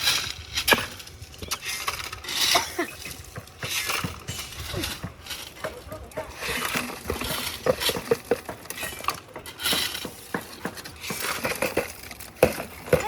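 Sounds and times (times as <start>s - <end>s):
rough scrape: 0.0s - 13.0s.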